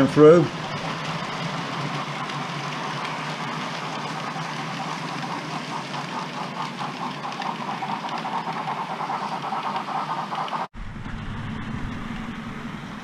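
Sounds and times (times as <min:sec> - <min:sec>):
model train running on track: 0:00.0 - 0:10.7.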